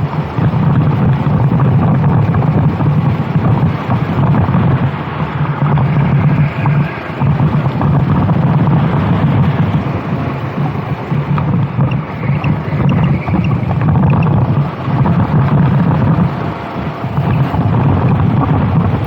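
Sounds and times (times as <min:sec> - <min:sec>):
racing kart engine running: 0:00.0 - 0:19.0
wind noise on microphone: 0:00.0 - 0:19.0.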